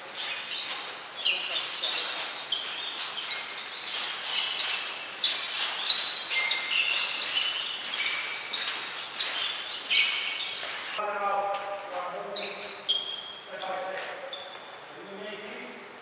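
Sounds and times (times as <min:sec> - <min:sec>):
shoes squeaking on sports floor: 0:00.0 - 0:15.6.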